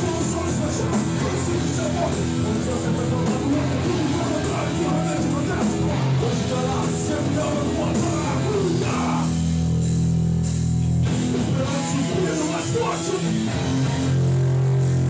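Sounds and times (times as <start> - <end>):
hardcore band playing live: 0.0 - 15.0.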